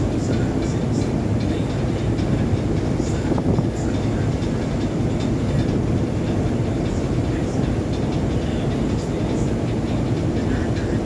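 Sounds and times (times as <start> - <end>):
hull washing through sea: 0.0 - 11.0
ship engines droning: 0.0 - 11.0.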